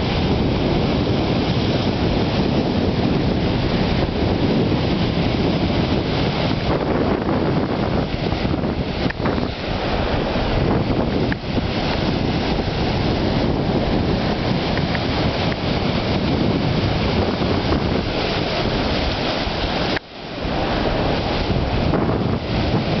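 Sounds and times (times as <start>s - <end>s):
sea surf: 0.0s - 23.0s
wind buffeting microphone: 0.0s - 23.0s.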